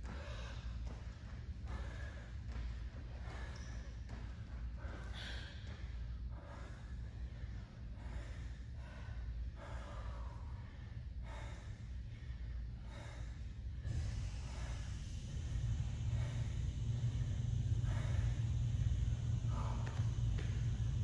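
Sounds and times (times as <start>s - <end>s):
low room hum: 0.0s - 21.0s
man breathing hard: 0.0s - 21.0s.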